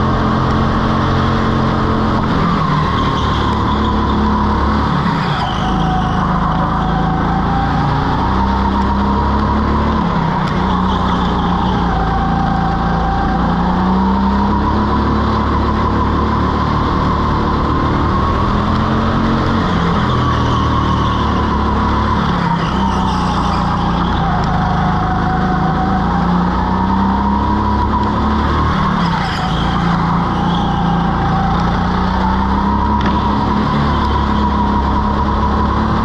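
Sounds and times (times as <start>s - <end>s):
go-kart motor whine: 0.0s - 36.0s.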